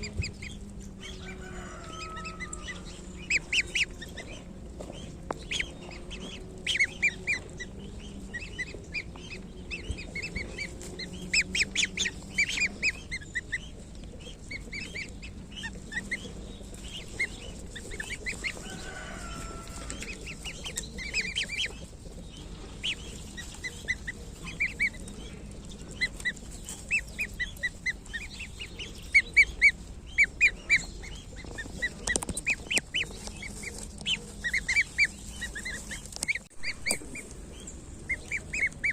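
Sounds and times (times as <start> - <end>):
faint low hum: 0.0 - 38.9
goslings peeping: 0.0 - 38.9.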